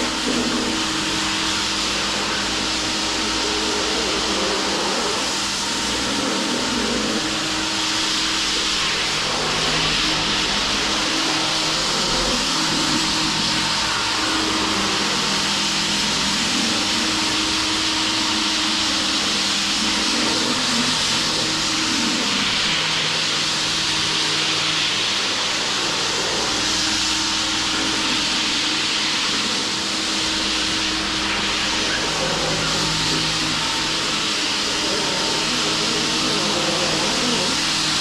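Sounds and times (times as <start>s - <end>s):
machine hissing: 0.0s - 38.0s.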